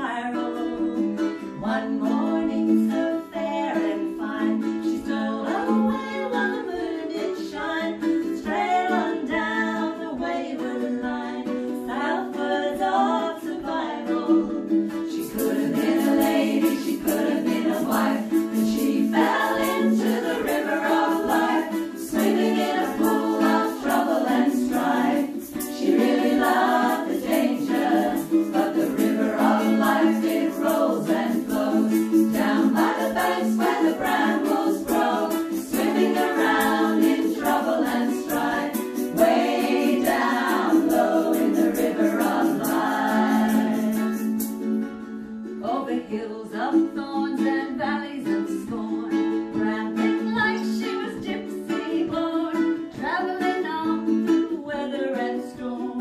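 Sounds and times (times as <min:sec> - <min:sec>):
group singing folk song: 0:00.0 - 0:56.0
strummed string instrument: 0:00.0 - 0:56.0.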